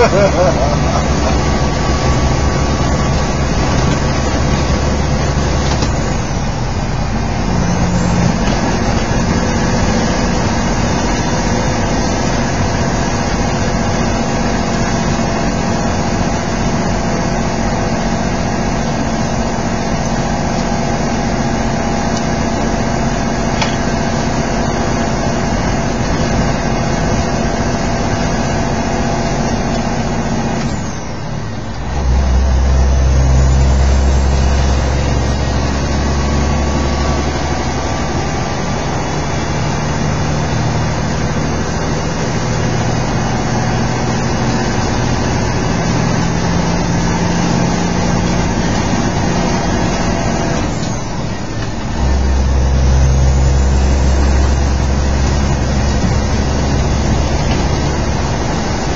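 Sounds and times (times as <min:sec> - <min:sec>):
deeper rumble: 0:00.0 - 0:58.9
truck engine and tyres droning: 0:00.0 - 0:58.9.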